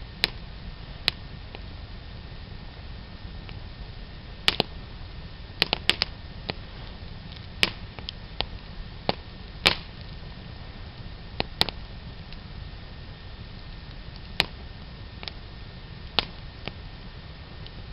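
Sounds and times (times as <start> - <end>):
low steady rumble: 0.0 - 17.9
wood fire crackling and popping: 0.0 - 17.9.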